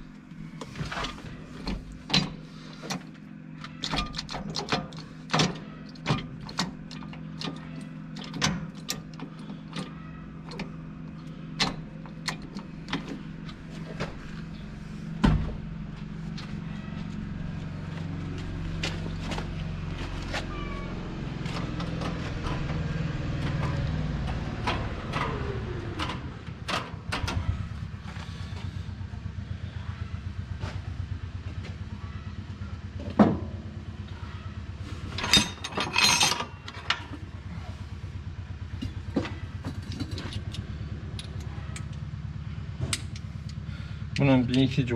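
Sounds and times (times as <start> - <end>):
engine humming: 0.0 - 44.9.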